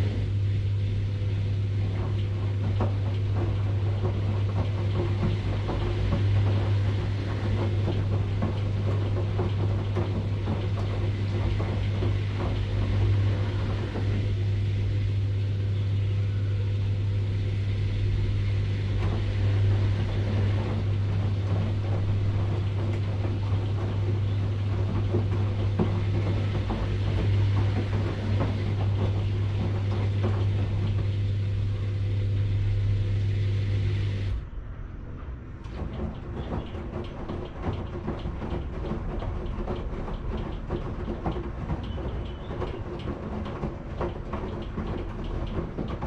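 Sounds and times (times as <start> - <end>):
washing machine running: 0.0 - 46.0.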